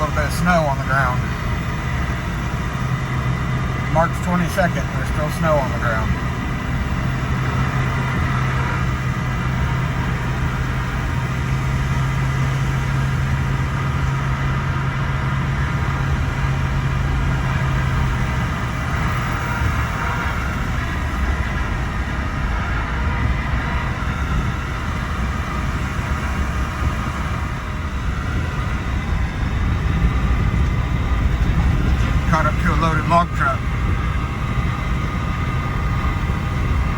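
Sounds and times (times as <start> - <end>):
low hum: 0.0 - 36.9
truck engine and tyre rumble: 0.0 - 36.9.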